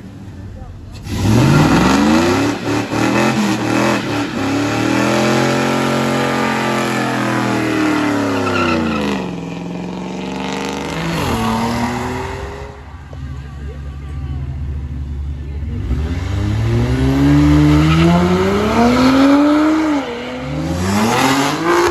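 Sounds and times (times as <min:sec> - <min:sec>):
car engine revving hard: 0:00.8 - 0:13.2, 0:15.5 - 0:21.9.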